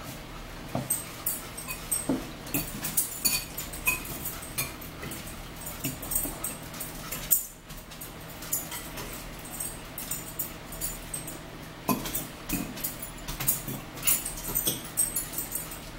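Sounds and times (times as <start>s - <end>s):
forks clinking on plates: 0.8s - 15.9s.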